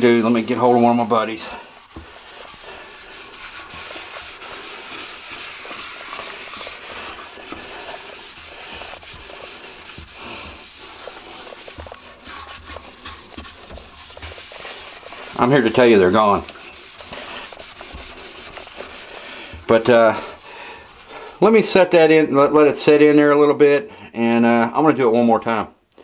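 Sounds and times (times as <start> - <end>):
pad scrubbing toilet bowl: 0.0 - 22.1.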